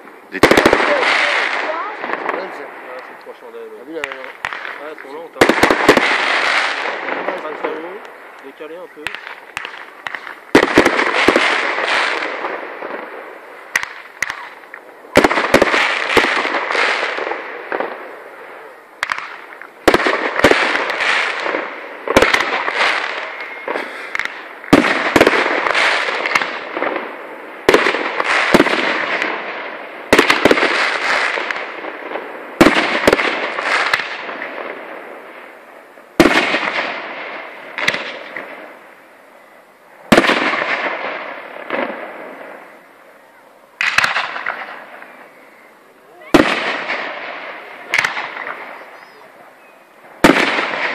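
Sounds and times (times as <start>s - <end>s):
crackling hiss of fireworks: 0.0s - 50.9s
fireworks bangs: 0.0s - 50.9s.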